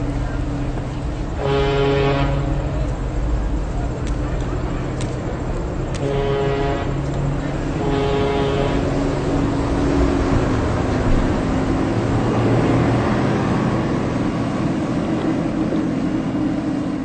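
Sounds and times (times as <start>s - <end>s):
ship engine running: 0.0s - 17.0s
wash of noise: 0.0s - 17.0s.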